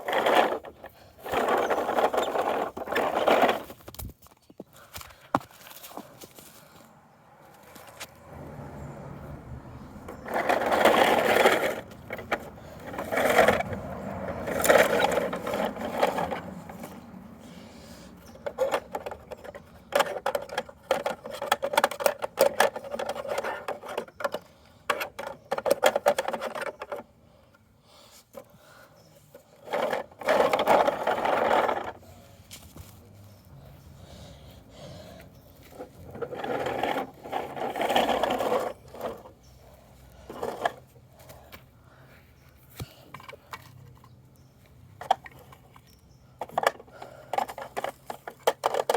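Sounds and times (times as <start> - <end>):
plastic toy rattling and scraping: 0.0 - 6.7, 9.8 - 27.1, 29.3 - 34.2, 35.3 - 41.6, 43.1 - 44.2, 45.0 - 48.9.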